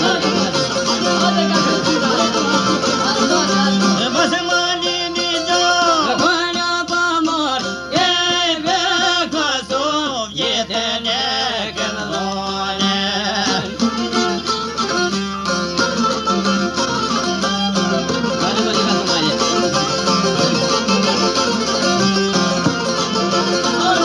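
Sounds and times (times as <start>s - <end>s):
plucked long-necked lutes: 0.0s - 24.0s
violin melody: 0.0s - 24.0s.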